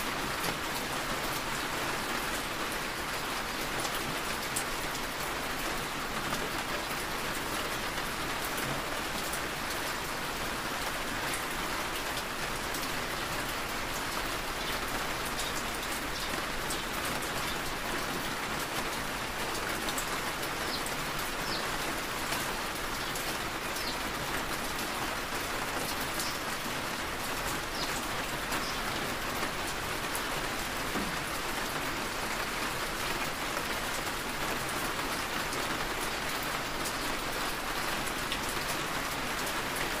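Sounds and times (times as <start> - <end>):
rain on a car roof: 0.0 - 40.0.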